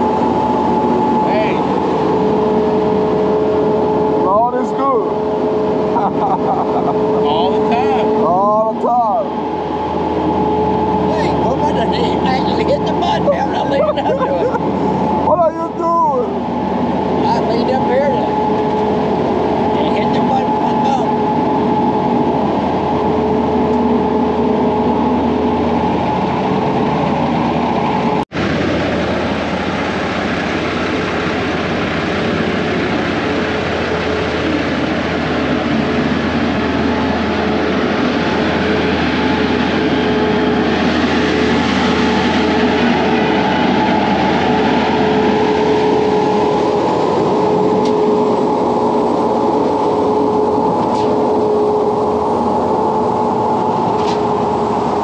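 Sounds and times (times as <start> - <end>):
diesel machinery humming: 0.0 - 55.0.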